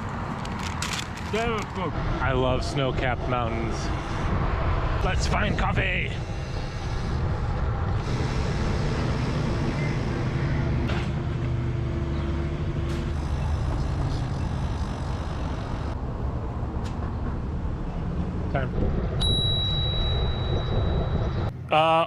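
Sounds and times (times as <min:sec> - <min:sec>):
heavy vehicle engine hum: 0:00.0 - 0:21.8
traffic low rumble: 0:00.0 - 0:22.0.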